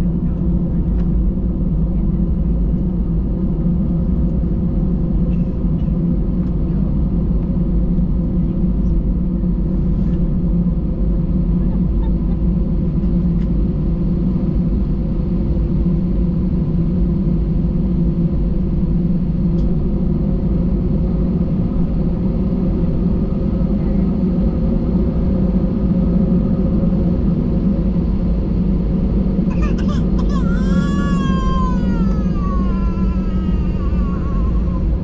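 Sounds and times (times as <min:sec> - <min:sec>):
airplane engines rumbling in cabin: 0:00.0 - 0:35.0.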